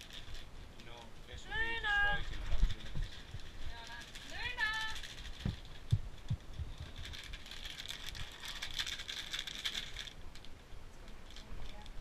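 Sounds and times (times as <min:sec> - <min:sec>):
crinkly rustling: 0:00.0 - 0:12.0.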